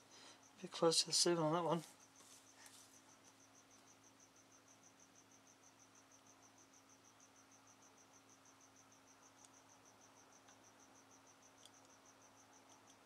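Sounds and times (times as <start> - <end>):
cricket chirping: 0.0 - 13.0
low electrical hum: 0.0 - 13.0.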